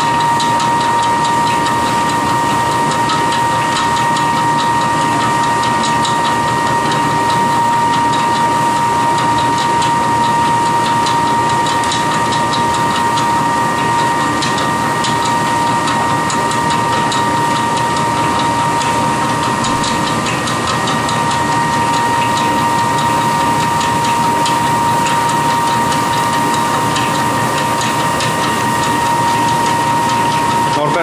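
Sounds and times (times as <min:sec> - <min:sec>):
pellet mill whining: 0:00.0 - 0:31.0.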